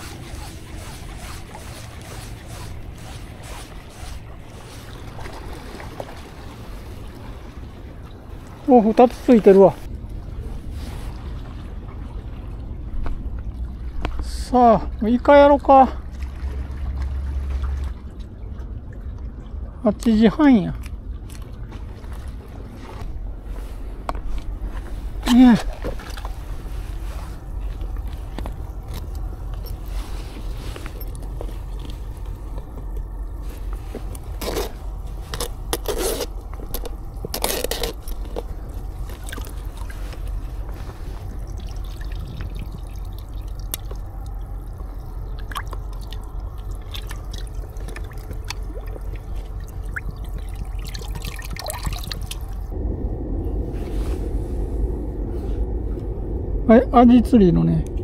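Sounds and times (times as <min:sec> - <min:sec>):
short water splashes: 0:00.0 - 0:19.4, 0:20.5 - 0:23.8, 0:24.8 - 0:52.8
water sloshing in buckets: 0:00.0 - 0:52.8
steady low rumble: 0:00.0 - 0:58.0.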